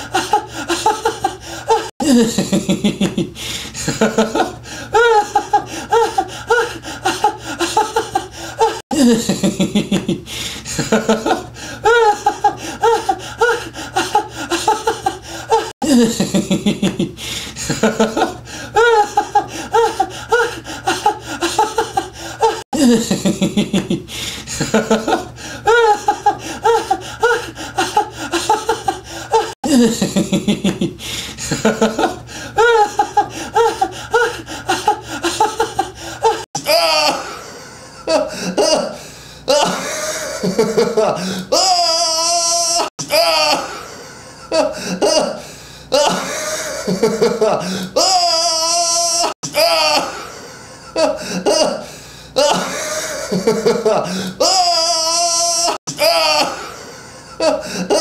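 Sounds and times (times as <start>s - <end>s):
man laughing hard: 0.0s - 58.0s.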